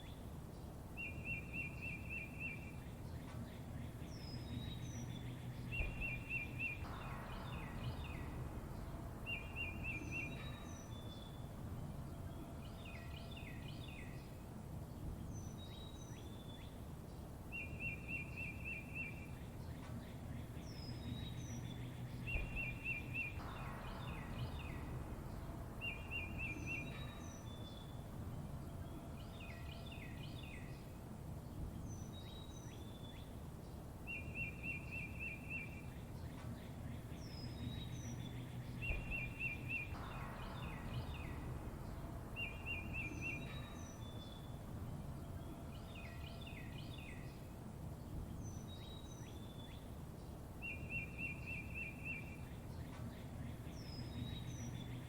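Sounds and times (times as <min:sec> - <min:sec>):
low background rumble: 0:00.0 - 0:55.0
songbird trill: 0:00.0 - 0:55.0.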